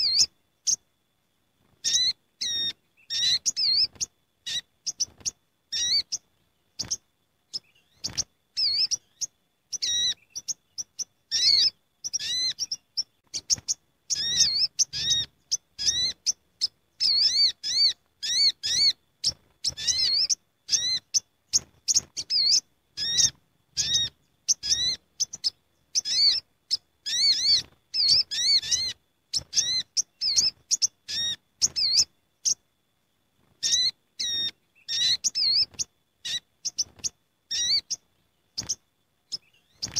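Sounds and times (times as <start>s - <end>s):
sunbirds chirping: 0.0s - 39.9s.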